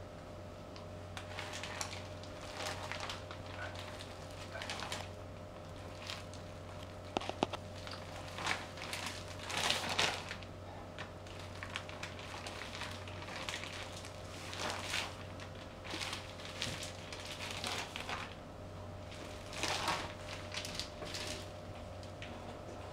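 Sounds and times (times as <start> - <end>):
faint steady hum: 0.0 - 22.9
plastic sheet crinkling: 1.2 - 18.4, 19.0 - 22.4.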